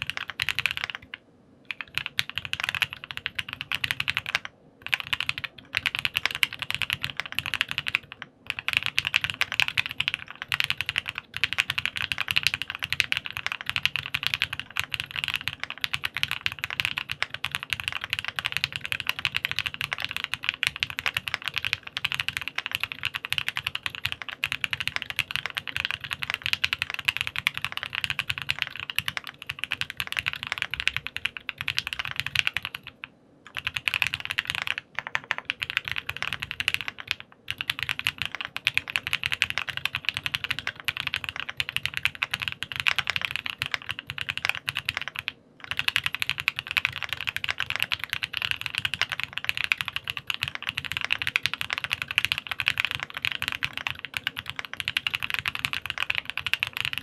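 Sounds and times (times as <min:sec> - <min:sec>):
fast mechanical keyboard typing: 0:00.0 - 0:57.0.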